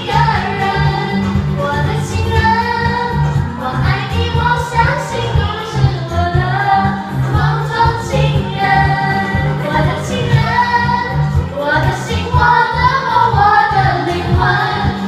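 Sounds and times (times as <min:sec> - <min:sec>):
music backing track with bass: 0:00.0 - 0:15.0
women singing karaoke: 0:00.0 - 0:15.0.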